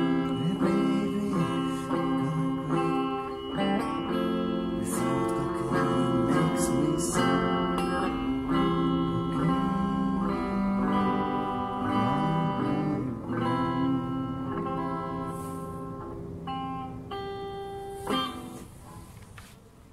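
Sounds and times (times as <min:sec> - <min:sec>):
guitar playing blues riff: 0:00.0 - 0:19.4.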